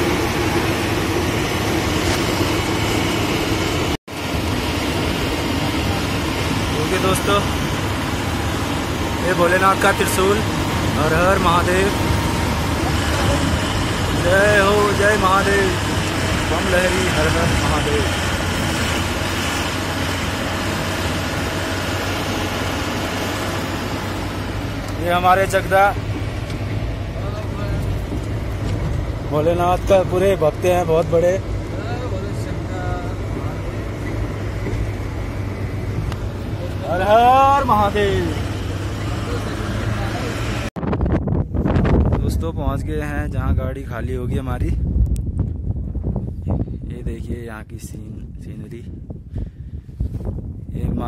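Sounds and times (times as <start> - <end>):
truck engine running: 0.0 - 42.1.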